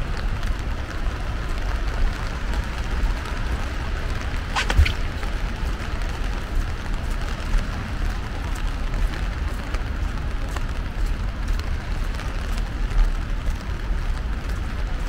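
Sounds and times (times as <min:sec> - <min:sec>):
faint ticks of raindrops: 0:00.0 - 0:04.5, 0:05.2 - 0:15.0.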